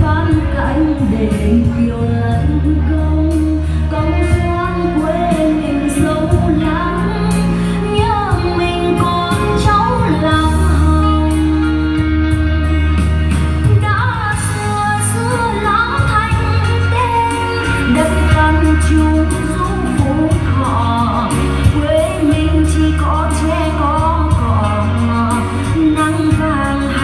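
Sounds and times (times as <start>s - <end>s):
band accompaniment with beat: 0.0s - 27.0s
woman singing: 0.0s - 27.0s.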